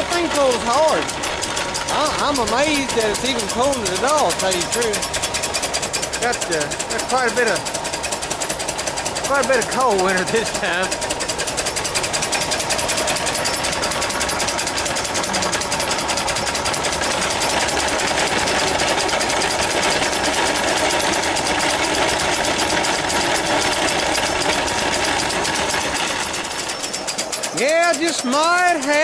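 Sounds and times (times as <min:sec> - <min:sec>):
grinder burrs grinding corn: 0:00.0 - 0:29.0
steam engine beat: 0:00.0 - 0:29.0.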